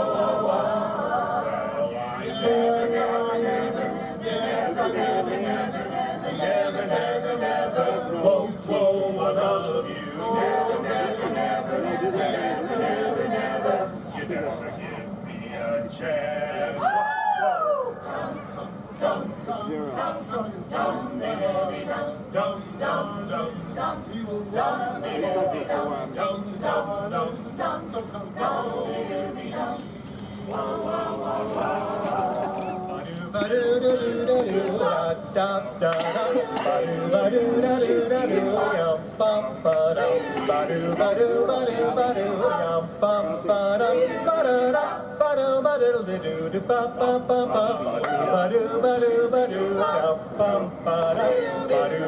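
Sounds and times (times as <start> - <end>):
mixed chorus singing: 0.0 - 14.6, 15.3 - 52.0.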